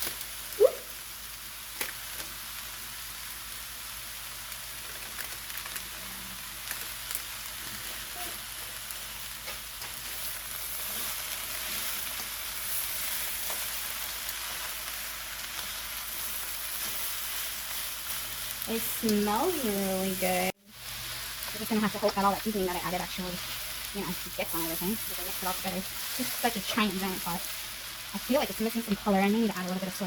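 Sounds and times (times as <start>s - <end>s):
rice sizzling in a pot: 0.0s - 30.0s.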